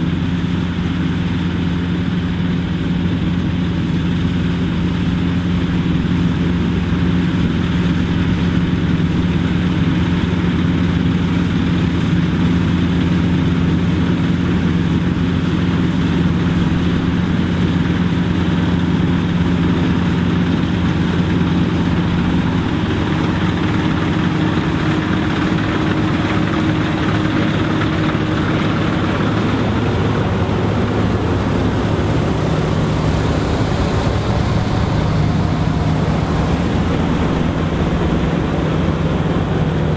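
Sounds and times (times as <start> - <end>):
combine harvester engine drone: 0.0 - 39.9
mechanical rush: 1.9 - 39.9.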